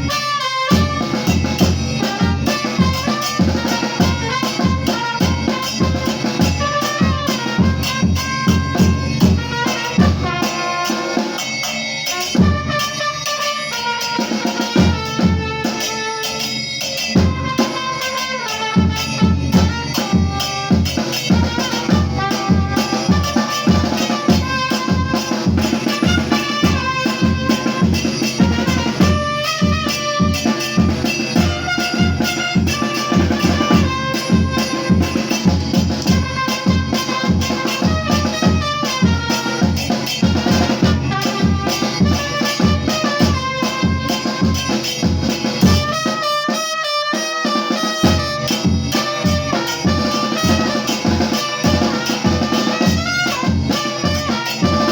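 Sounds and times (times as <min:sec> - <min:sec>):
upbeat music with drum beat: 0:00.0 - 0:54.9.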